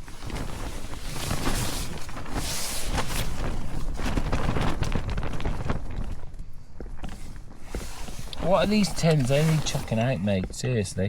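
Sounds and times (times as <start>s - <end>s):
fabric flapping in wind: 0.0s - 11.0s
low wind rumble: 0.0s - 11.0s.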